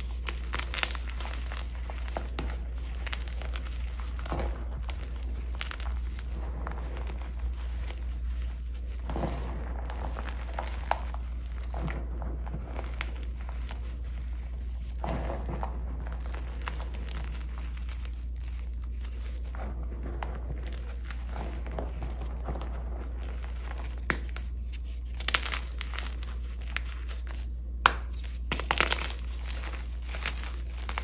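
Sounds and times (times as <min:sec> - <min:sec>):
chalk blocks crunching: 0:00.0 - 0:31.0
low steady hum: 0:00.0 - 0:31.0.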